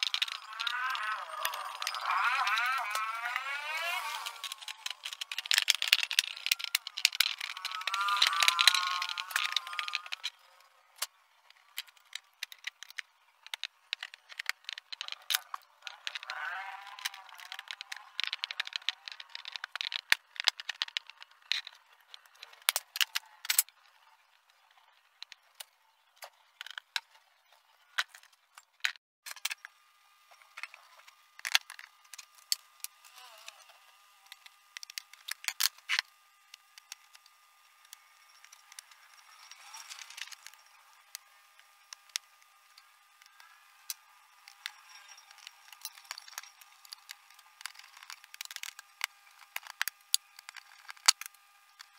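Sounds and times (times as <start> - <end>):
plastic parts clicking and knocking: 0.0 - 29.7, 30.3 - 51.9.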